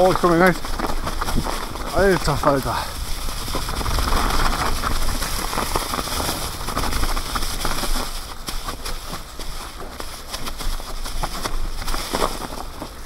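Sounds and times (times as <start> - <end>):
bike tyres rustling through leaves: 0.0 - 13.0
wind rumbling on microphone: 0.0 - 13.0.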